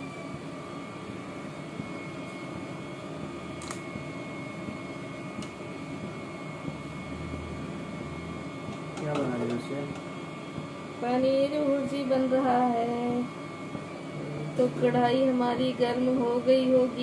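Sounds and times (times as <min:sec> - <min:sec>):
gas burner roaring: 0:00.0 - 0:17.0.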